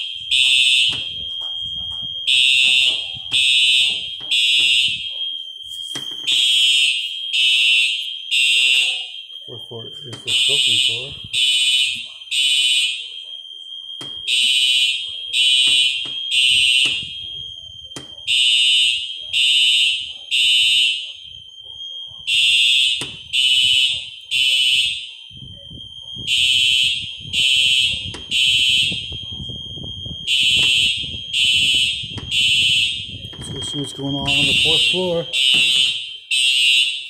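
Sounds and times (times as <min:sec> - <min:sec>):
fire alarm beeps: 0:00.0 - 0:37.0.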